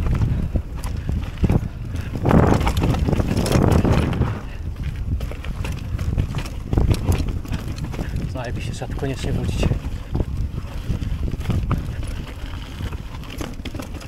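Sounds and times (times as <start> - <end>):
bike rattling with clicks: 0.0 - 14.0
wind buffeting microphone: 0.0 - 14.0
tyres rolling over rock: 1.5 - 14.0.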